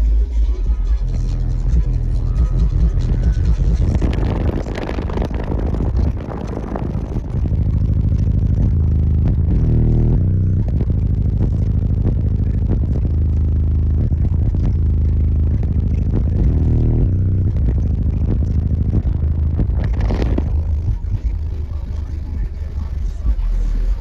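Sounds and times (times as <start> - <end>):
deep bass note: 0.0 - 24.0
distorted bass-heavy music: 0.0 - 24.0.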